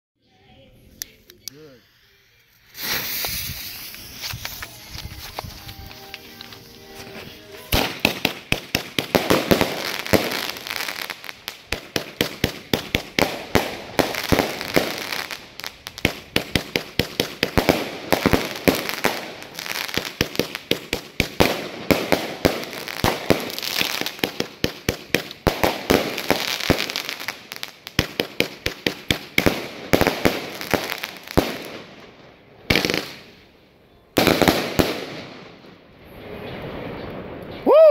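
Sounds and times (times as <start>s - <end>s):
firework shots crackling: 0.9s - 33.4s, 34.2s - 37.8s.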